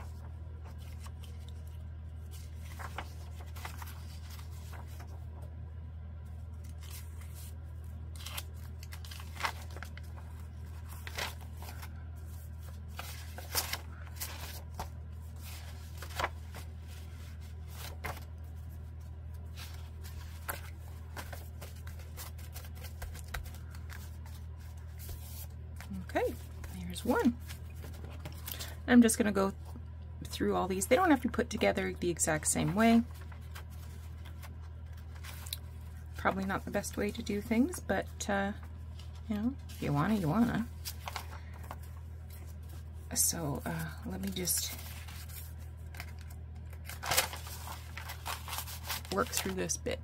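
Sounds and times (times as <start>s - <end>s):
paper sheets rustling: 0.0s - 5.5s, 6.4s - 28.7s, 32.4s - 49.9s
steady low hum: 0.0s - 50.0s.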